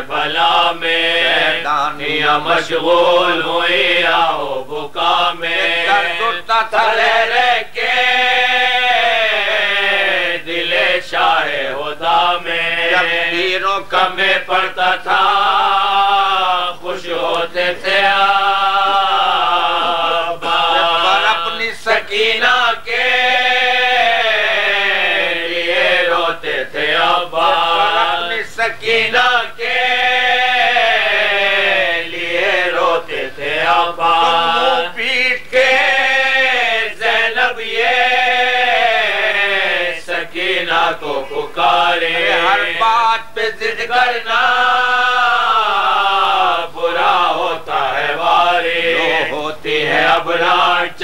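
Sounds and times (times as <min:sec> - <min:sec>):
elderly man chanting: 0:00.0 - 0:51.0.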